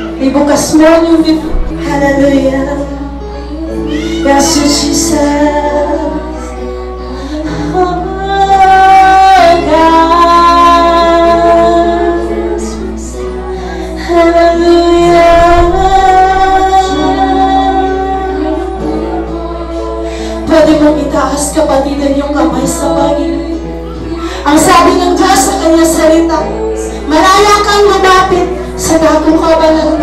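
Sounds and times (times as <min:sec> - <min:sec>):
sustained instrumental accompaniment: 0:00.0 - 0:30.0
woman singing: 0:00.0 - 0:30.0.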